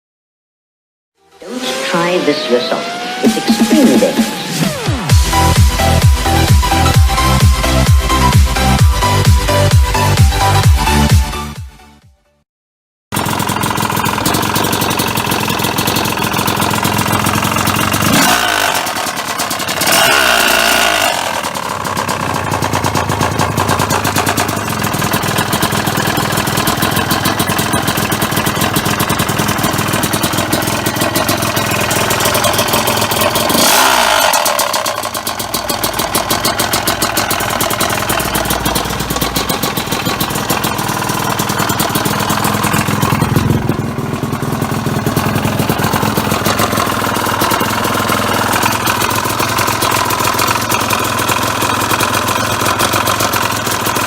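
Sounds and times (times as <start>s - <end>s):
two-stroke engine revving: 1.2s - 11.5s, 13.1s - 54.0s
engine knocking: 3.2s - 11.3s, 13.1s - 54.0s.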